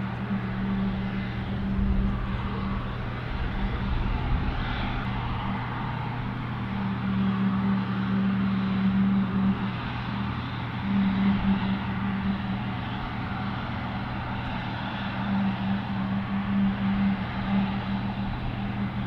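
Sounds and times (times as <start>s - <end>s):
aircraft engines droning: 0.0s - 19.0s
low hum: 0.0s - 19.0s.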